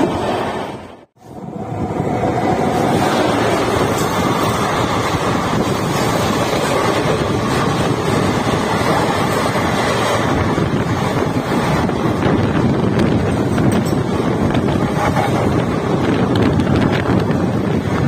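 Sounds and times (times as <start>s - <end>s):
train passing close by: 0.0s - 18.0s
train running noise: 0.0s - 18.0s
wind buffeting microphone: 1.1s - 18.0s.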